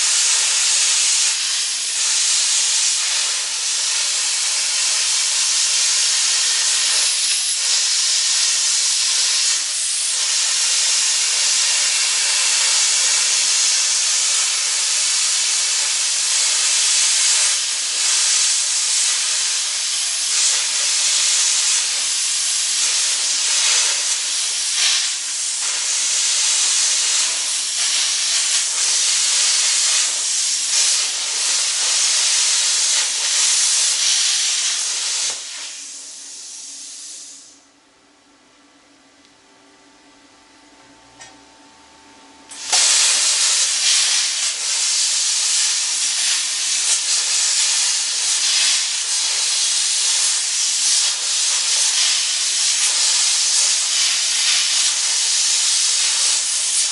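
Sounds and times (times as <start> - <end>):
plasma cutter hissing: 0.0 - 37.6, 42.5 - 56.9.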